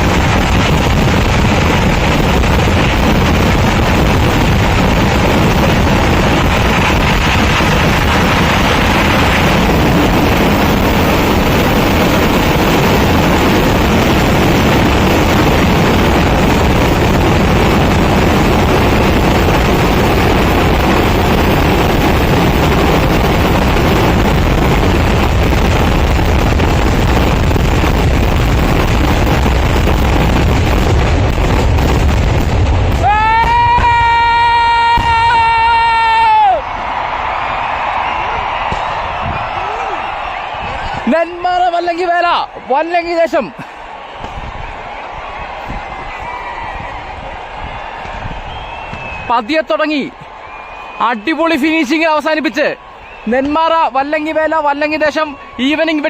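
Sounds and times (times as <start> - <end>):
firecrackers in continuous roar: 0.0 - 56.0.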